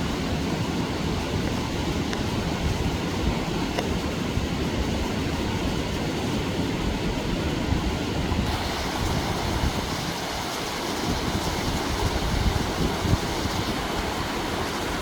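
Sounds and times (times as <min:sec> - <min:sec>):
stream rushing over rocks: 0:00.0 - 0:15.0
wind buffeting microphone: 0:00.0 - 0:15.0.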